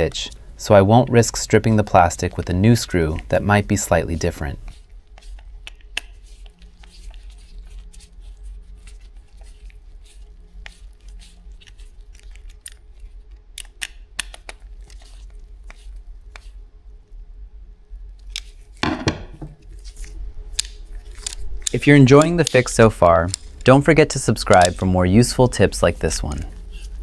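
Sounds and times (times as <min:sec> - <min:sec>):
plastic parts clicking: 0:02.8 - 0:16.5, 0:18.2 - 0:27.0
screwdriver being handled: 0:02.8 - 0:16.6, 0:18.2 - 0:27.0.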